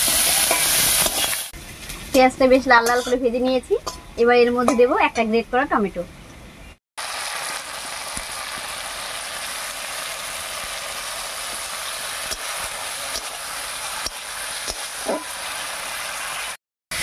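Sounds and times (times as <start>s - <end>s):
tomato frying in oil: 0.0s - 5.0s, 7.0s - 17.0s.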